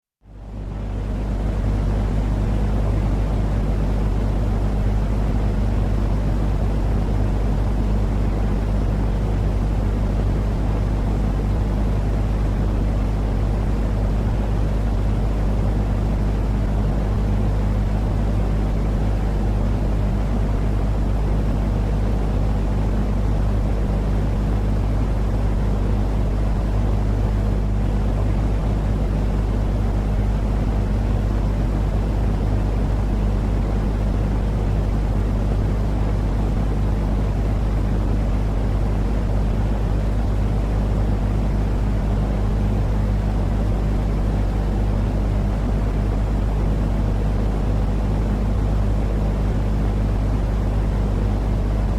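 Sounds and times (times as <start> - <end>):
faint steady hum: 0.2 - 51.9.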